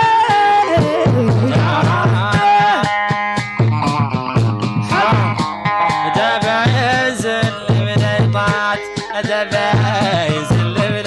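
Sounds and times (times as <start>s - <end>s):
melody over drum beat: 0.0s - 11.0s.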